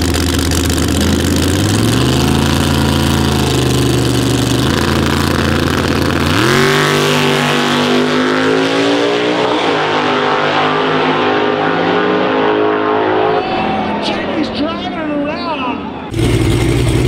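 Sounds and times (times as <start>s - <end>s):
drag car engines revving: 0.0s - 17.0s.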